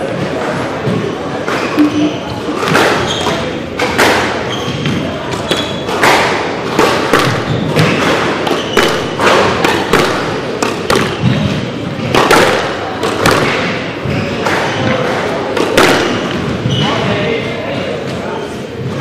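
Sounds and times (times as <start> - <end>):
squash ball hits: 0.1 - 18.0.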